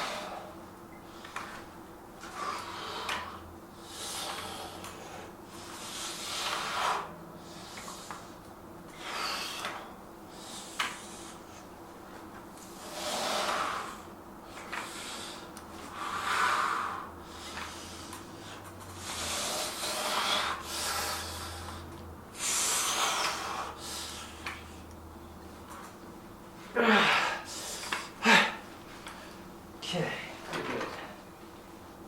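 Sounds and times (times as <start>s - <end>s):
man breathing hard: 0.0s - 1.6s, 2.2s - 11.7s, 12.7s - 24.9s, 26.7s - 29.4s.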